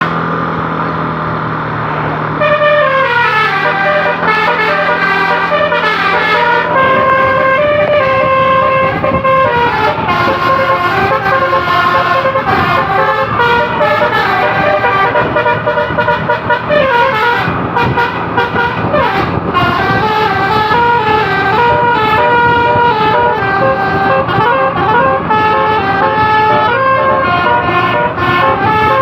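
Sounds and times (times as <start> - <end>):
multi-trumpet horn playing a tune: 2.4 - 29.0.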